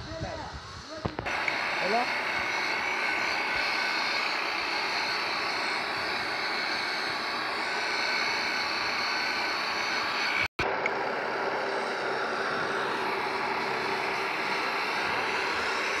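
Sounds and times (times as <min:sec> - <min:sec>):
electric motor running: 0:00.2 - 0:16.0.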